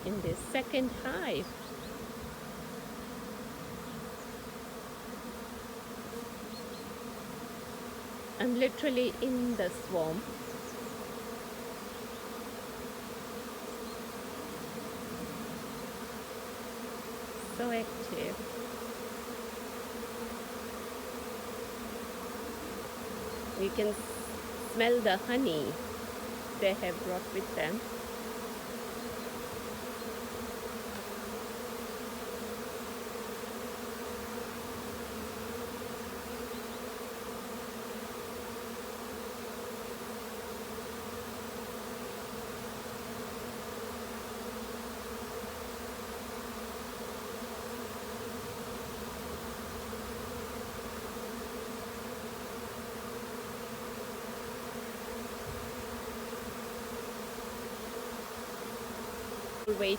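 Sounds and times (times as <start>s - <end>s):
swarm of bees buzzing: 0.0s - 59.9s.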